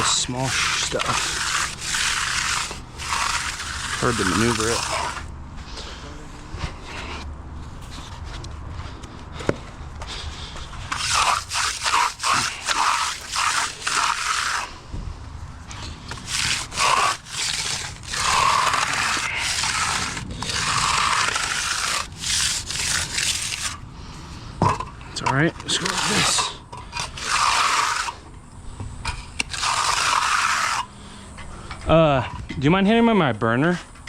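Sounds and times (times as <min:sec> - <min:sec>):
trowel scraping concrete: 0:00.0 - 0:08.2, 0:10.6 - 0:14.9, 0:15.7 - 0:23.8, 0:24.6 - 0:28.4, 0:29.0 - 0:33.0.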